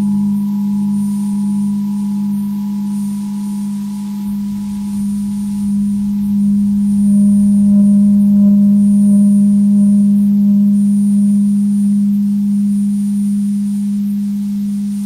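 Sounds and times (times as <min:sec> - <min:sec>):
droning music low tone: 0:00.0 - 0:15.0
thin high whine: 0:00.0 - 0:15.0.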